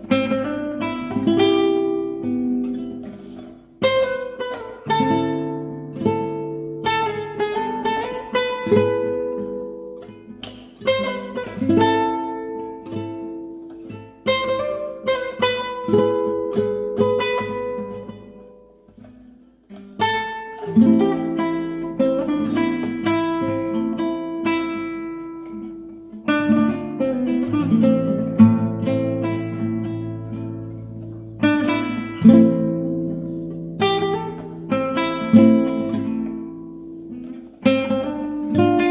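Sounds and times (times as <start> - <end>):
guitar playing: 0.0 - 38.9.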